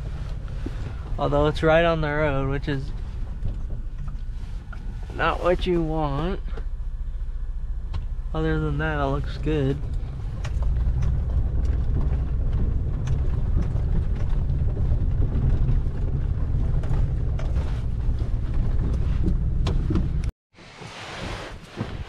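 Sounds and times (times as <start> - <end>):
truck engine and tyres rumbling: 0.0 - 22.0.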